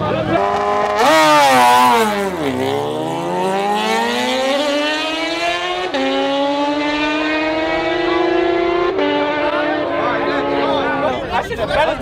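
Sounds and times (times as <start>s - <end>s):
motorcycles accelerating at full throttle: 0.0s - 12.0s.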